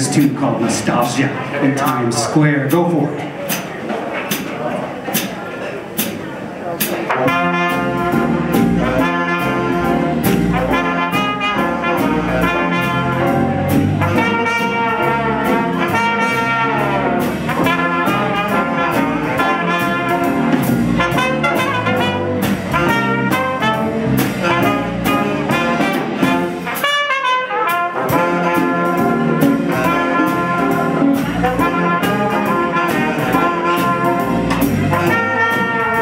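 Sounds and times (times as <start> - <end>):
jazz big band playing: 0.0 - 36.0.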